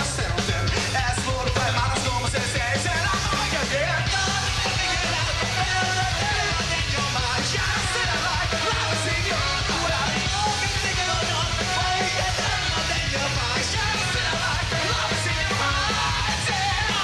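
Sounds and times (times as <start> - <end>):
bass line: 0.0 - 17.0
drums with cymbals: 0.0 - 17.0.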